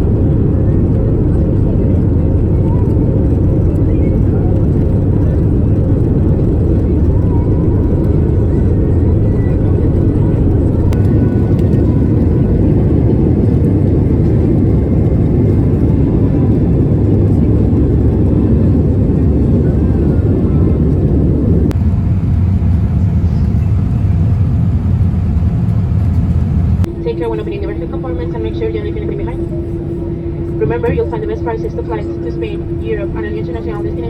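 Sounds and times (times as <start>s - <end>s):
jet cabin engine rumble: 0.0s - 34.0s.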